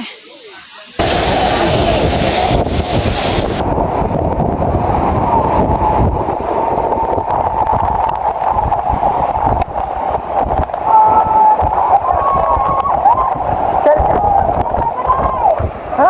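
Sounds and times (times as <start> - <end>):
waterfall rushing: 1.0 - 16.0
wind rumbling on microphone: 1.0 - 16.0.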